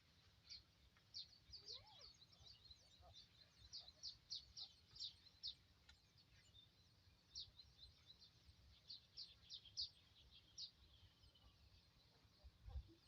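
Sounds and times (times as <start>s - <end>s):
small bird chirping: 0.2s - 13.0s.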